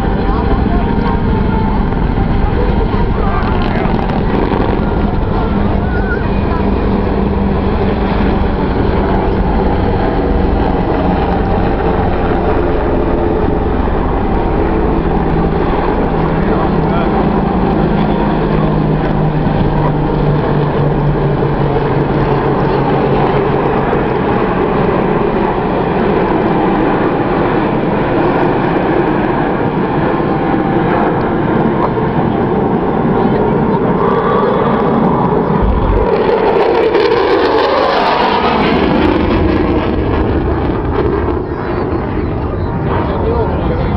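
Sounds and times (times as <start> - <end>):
helicopter rotors and turbines: 0.0 - 43.9
jet engines droning: 0.0 - 43.9.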